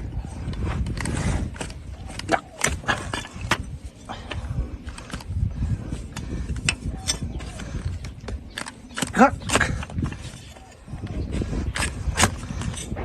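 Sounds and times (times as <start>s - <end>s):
hoof trimming cracks and scrapes: 0.0s - 13.0s.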